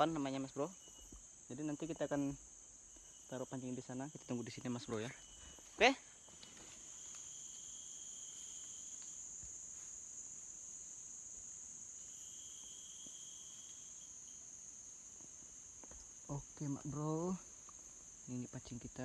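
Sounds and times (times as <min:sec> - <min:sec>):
insects chirring: 0:00.0 - 0:19.0
lower-pitched insect trill: 0:00.0 - 0:19.0.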